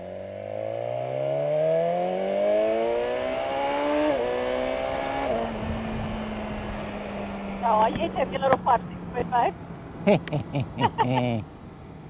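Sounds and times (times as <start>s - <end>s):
motorcycle engine accelerating: 0.0s - 11.4s.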